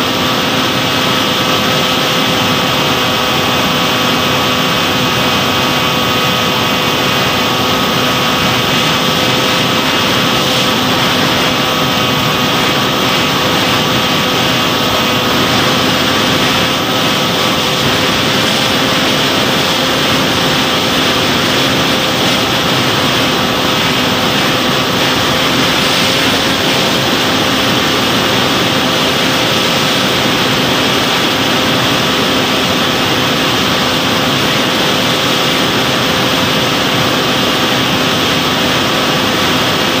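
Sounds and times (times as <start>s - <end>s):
rushing air hiss: 0.0s - 39.9s
electric motor and propeller whine: 0.0s - 40.0s.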